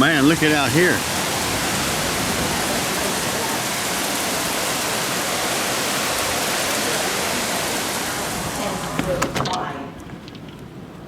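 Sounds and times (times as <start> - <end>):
heavy rain hissing: 0.0 - 10.4
rushing floodwater: 0.0 - 11.0.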